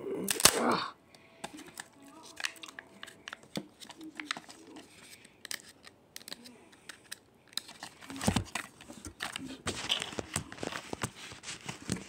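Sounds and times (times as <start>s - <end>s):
foil crinkling and tearing: 1.6s - 7.0s, 7.6s - 12.0s.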